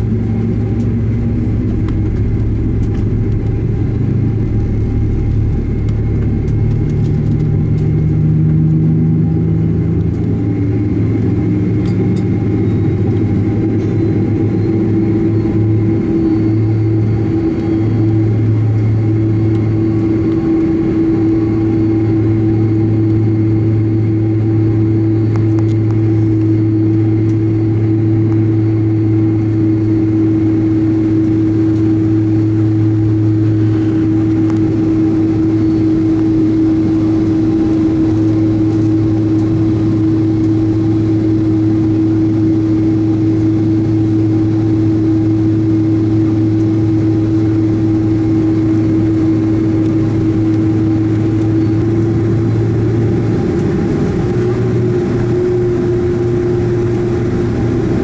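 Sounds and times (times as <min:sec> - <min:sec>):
aircraft engine hum and whine: 0:00.0 - 0:58.0.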